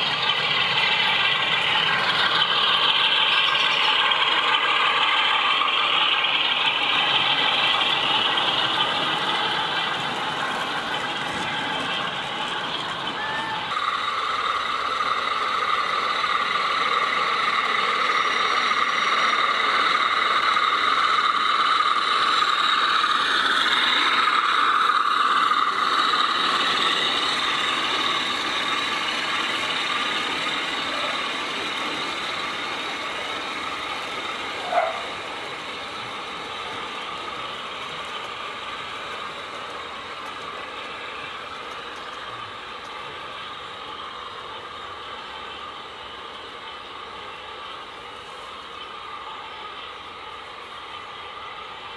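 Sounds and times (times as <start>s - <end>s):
model locomotive drone and whine: 0.0s - 51.9s.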